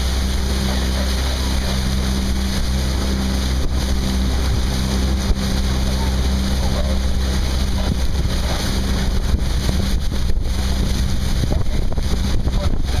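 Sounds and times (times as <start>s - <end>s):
outboard motor humming: 0.0s - 13.0s
water rushing past: 0.0s - 13.0s
wind buffeting microphone: 0.0s - 13.0s.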